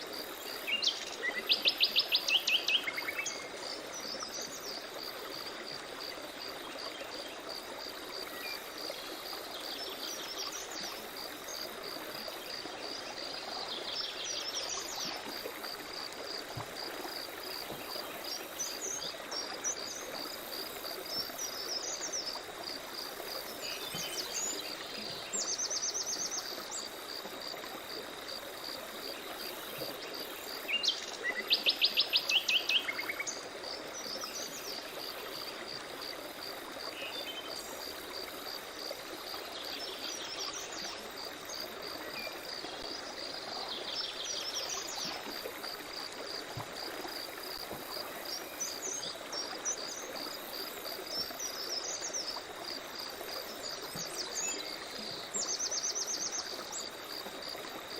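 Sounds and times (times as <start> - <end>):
constant background hiss: 0.0 - 57.9.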